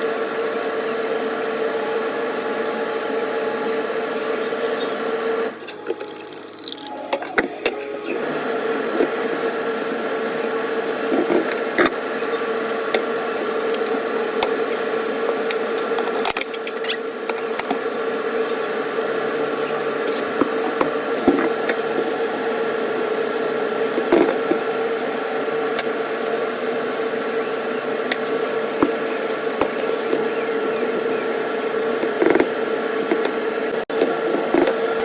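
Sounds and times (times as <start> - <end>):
machine humming: 0.0 - 35.0.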